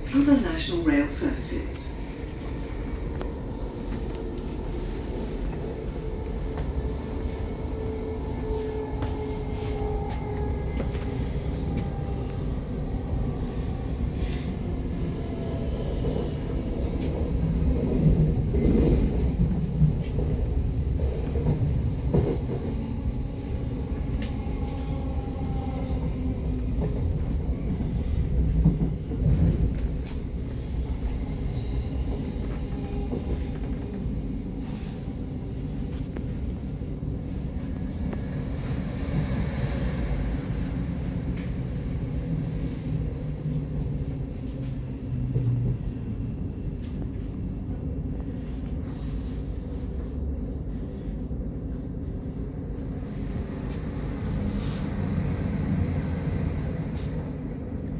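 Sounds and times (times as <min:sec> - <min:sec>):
train rumbling: 0:00.0 - 0:57.9.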